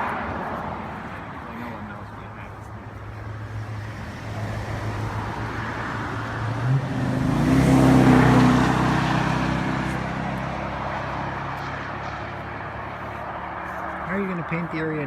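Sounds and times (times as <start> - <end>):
vehicle passing on highway: 0.0 - 15.0.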